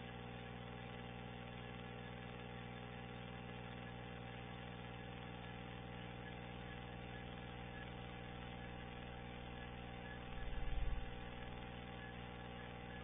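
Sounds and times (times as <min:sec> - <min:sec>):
low buzzing hum: 0:00.0 - 0:13.0.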